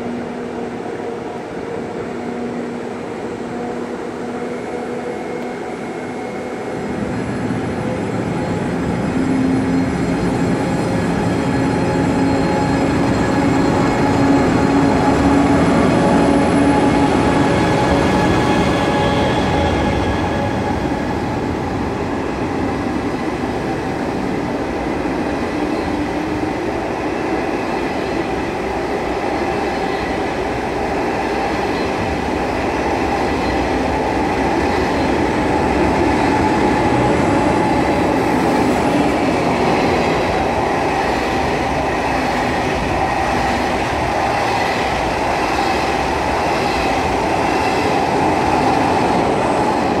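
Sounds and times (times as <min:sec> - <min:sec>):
faint train whine: 0:00.0 - 0:50.0.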